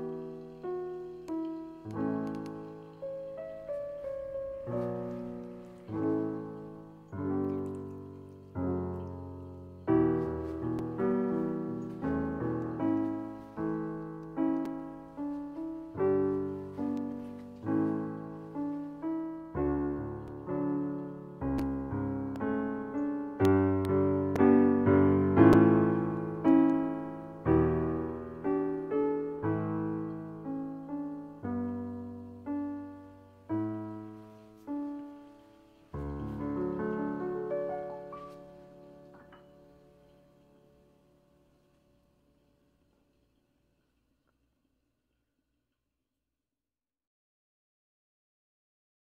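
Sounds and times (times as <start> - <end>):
solo piano music: 0.0 - 43.8.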